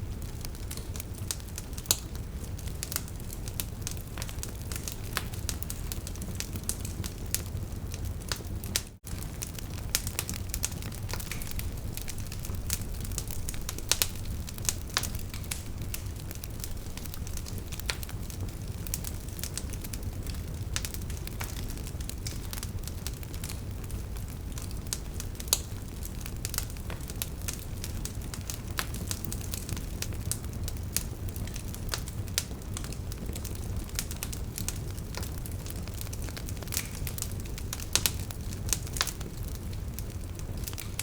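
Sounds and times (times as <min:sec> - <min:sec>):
burning logs crackling: 0:00.0 - 0:41.0
low rumble of flames: 0:00.0 - 0:41.0.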